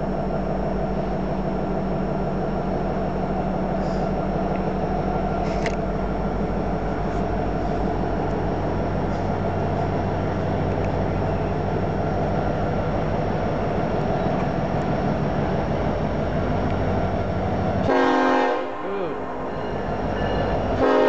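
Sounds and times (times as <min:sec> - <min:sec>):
diesel locomotives rumbling: 0:00.0 - 0:21.0.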